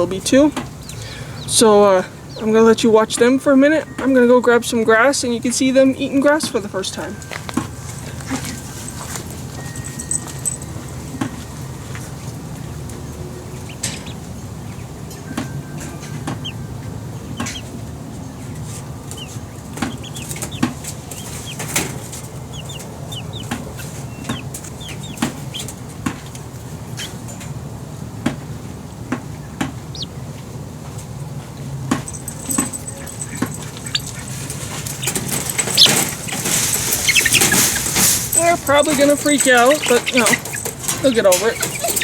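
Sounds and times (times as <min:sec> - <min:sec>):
chicks peeping: 0:00.0 - 0:04.3, 0:11.2 - 0:27.5, 0:28.2 - 0:42.0
low steady background noise: 0:00.0 - 0:42.0.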